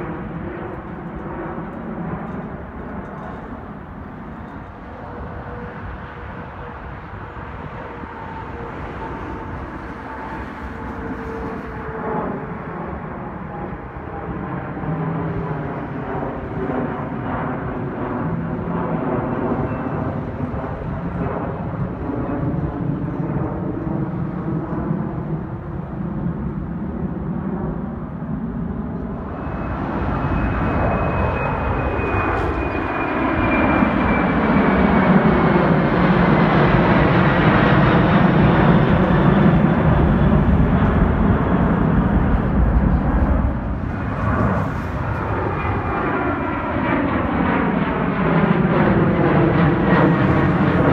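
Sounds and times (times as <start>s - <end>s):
jet airliner taking off: 0.0s - 50.9s.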